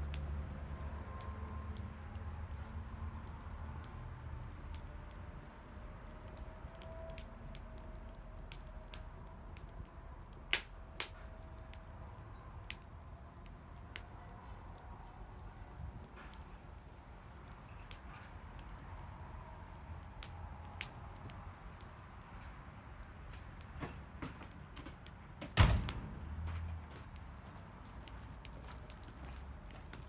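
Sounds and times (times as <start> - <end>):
campfire crackling: 0.0 - 30.0
fire pops and snaps: 0.0 - 30.0.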